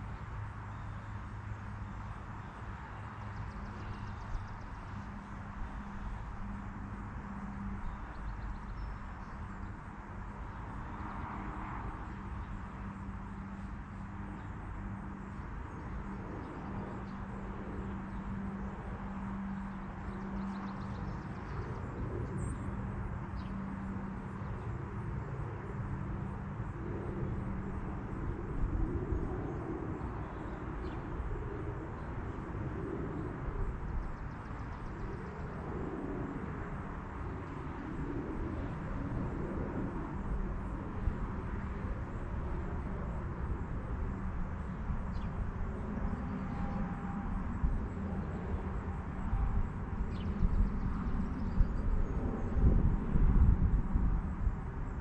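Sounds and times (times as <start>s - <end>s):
outdoor rumble and hiss: 0.0s - 55.0s.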